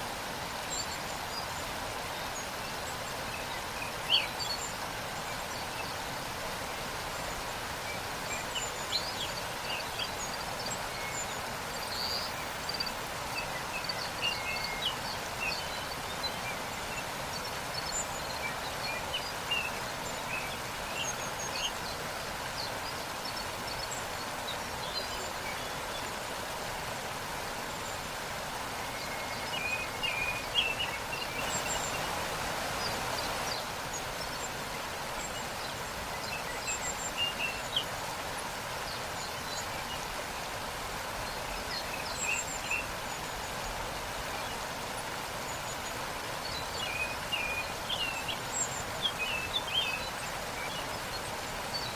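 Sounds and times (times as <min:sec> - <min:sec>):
waterfall rushing: 0:00.0 - 0:51.9
small birds chirping: 0:00.4 - 0:51.9.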